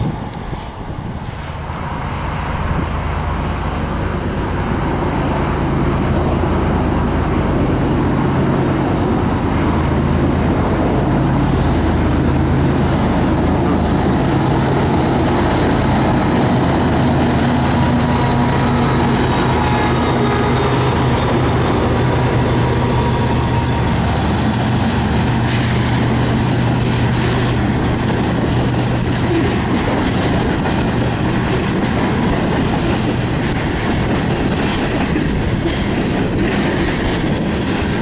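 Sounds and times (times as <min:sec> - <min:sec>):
locomotive engine drone: 0:00.0 - 0:38.0.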